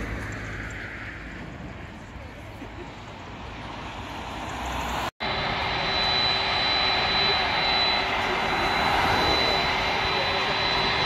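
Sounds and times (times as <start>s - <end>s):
jet airliner engine noise: 0.0s - 11.0s
jet airliner taxiing: 0.1s - 11.0s.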